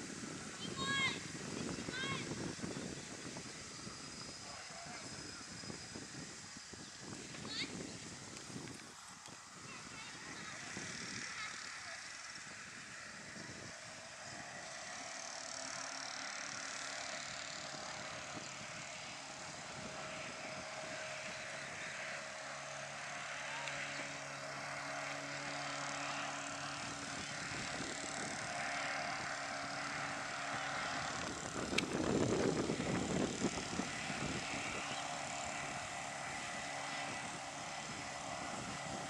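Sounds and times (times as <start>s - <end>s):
outboard motor droning: 0.0s - 39.0s.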